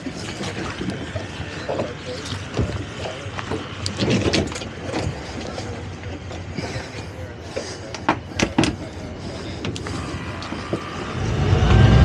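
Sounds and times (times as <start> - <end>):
steady noisy background: 0.0 - 12.0.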